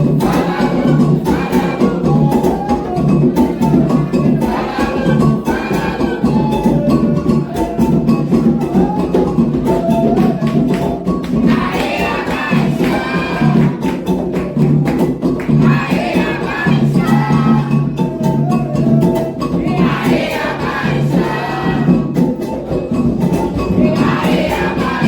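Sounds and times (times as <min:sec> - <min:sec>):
group singing chants: 0:00.0 - 0:25.0
hand drums playing: 0:00.0 - 0:25.0.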